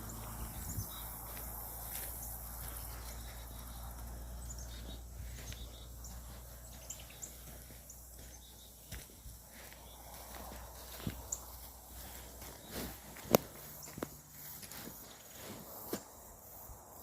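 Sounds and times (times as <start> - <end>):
light footsteps: 0.0 - 16.1
insect drone: 0.0 - 17.0.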